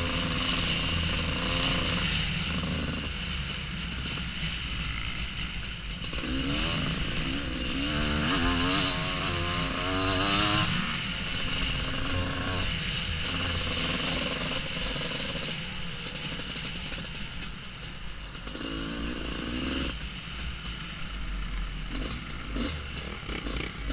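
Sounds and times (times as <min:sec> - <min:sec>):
dirt bike engine revving: 0:00.0 - 0:17.5, 0:18.4 - 0:20.0, 0:21.9 - 0:23.9.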